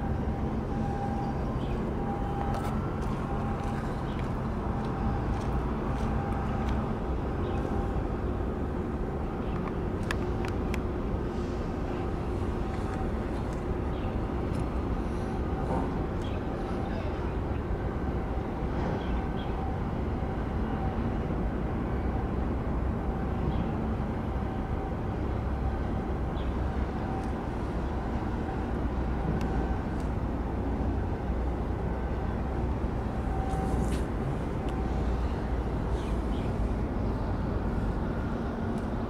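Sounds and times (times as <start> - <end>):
faint machinery hum: 0.0 - 39.0
ship engines rumbling: 0.0 - 39.0.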